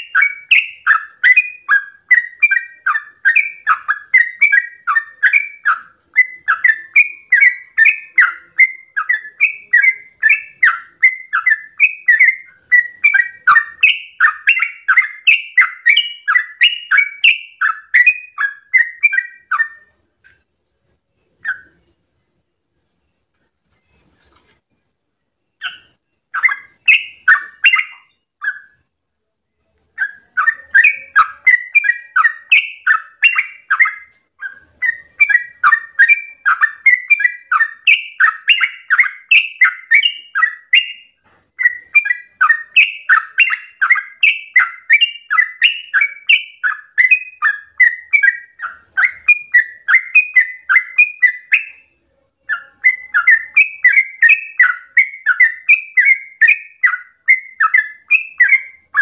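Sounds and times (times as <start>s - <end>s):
bird singing rapid repeated notes: 0.0s - 20.2s, 25.3s - 59.0s.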